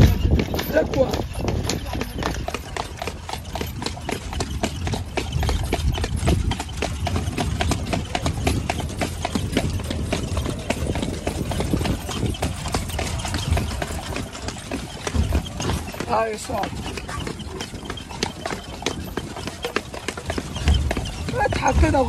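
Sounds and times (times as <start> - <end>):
horse hooves clip-clopping on asphalt: 0.0 - 22.0.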